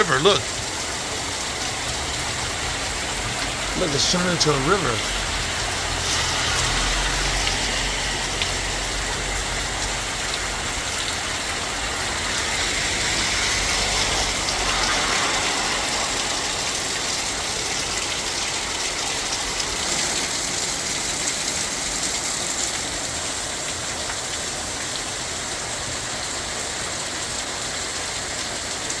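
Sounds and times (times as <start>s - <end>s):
heavy rain pouring: 0.0s - 29.0s
runoff water rushing: 0.0s - 29.0s.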